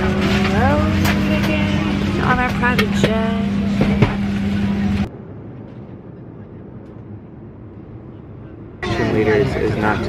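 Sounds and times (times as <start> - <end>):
airliner cabin noise: 0.0 - 10.0
steady hum: 0.0 - 10.0.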